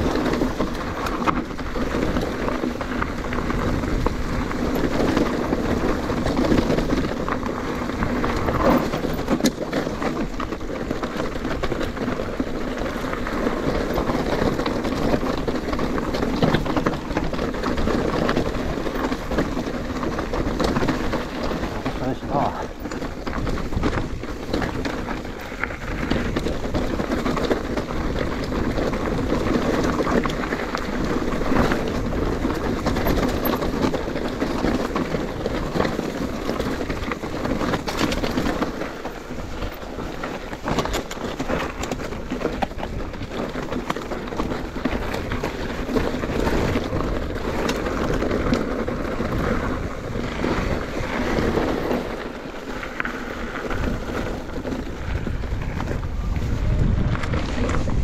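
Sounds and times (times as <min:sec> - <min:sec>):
bike tyres clicking over trail: 0:00.0 - 0:58.0
wind buffeting microphone: 0:00.0 - 0:58.0.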